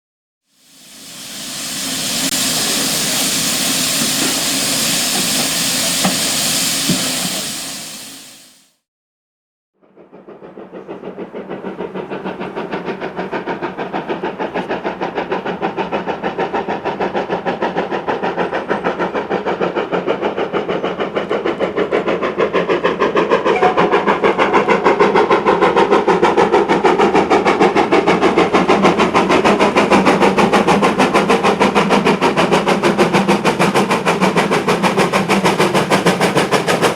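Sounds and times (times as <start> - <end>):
steam hissing: 0.5 - 8.7, 10.6 - 36.9
steam locomotive exhaust beats: 0.6 - 8.6, 9.8 - 36.9.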